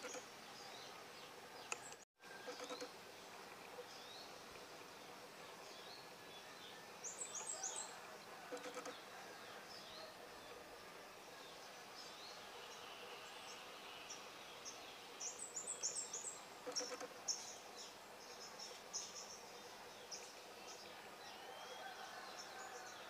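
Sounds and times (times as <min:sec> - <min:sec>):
birds chirping: 0:00.0 - 0:02.9, 0:05.5 - 0:23.0
faint outdoor hiss: 0:00.0 - 0:23.0.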